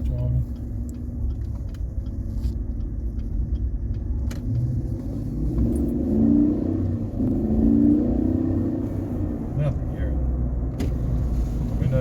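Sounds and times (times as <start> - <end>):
truck engine rumble from inside: 0.0 - 12.0.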